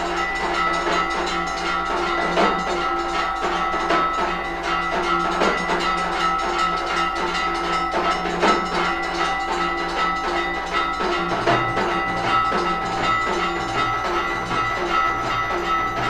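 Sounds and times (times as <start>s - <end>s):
drum strokes: 0.0s - 16.0s
held ringing tones: 0.0s - 16.0s.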